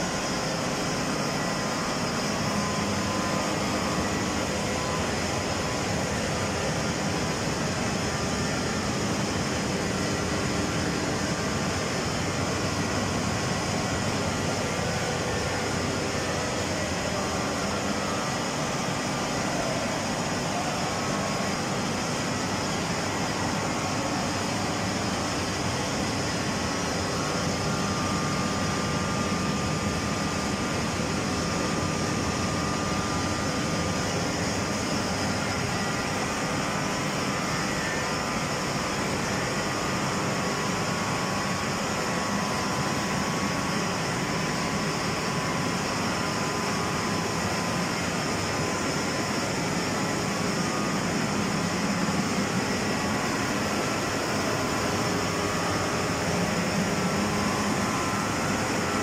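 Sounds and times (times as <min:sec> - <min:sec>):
faint high whining tones: 0:00.0 - 0:59.0
turbine machine drone: 0:00.0 - 0:59.0.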